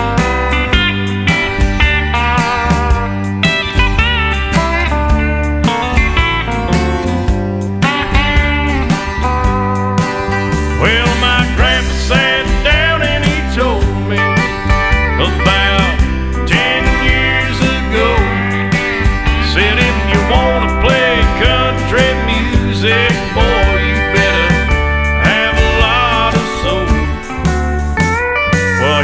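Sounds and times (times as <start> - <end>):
bass and drum beat: 0.0 - 29.0
country guitar lead with bends: 0.0 - 29.0.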